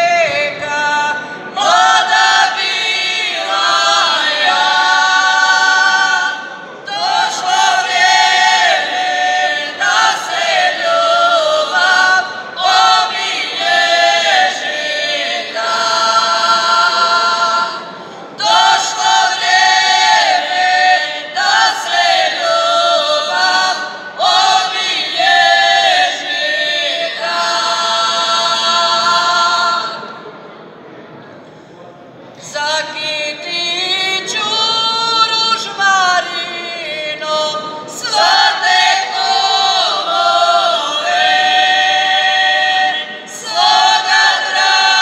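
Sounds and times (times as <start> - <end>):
women singing a cappella: 0.0 - 30.3, 32.4 - 45.0.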